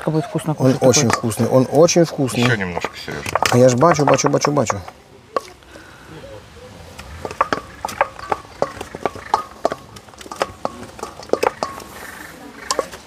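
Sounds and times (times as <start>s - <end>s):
utensils tapping against dishes: 0.7s - 5.6s, 7.2s - 13.0s.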